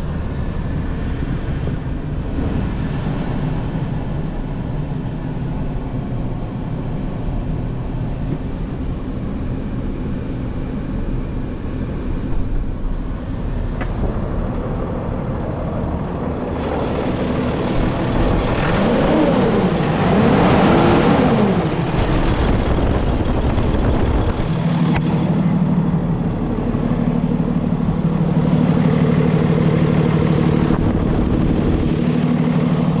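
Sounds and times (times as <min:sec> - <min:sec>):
diesel engine revving and idling: 0:00.0 - 0:33.0.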